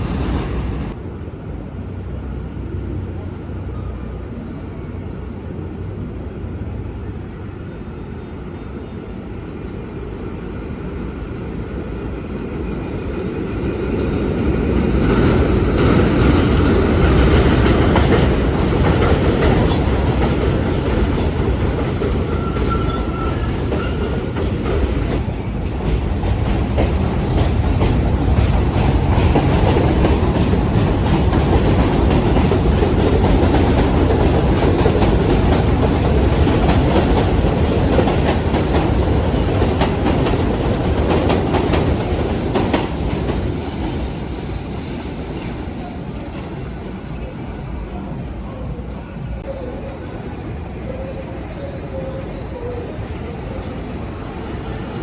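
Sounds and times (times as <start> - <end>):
subway train rumbling on track: 0.0 - 55.0.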